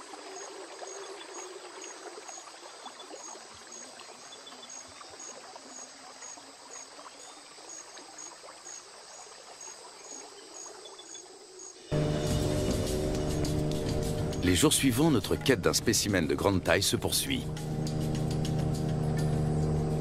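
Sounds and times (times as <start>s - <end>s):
river water trickling and lapping: 0.0s - 20.0s.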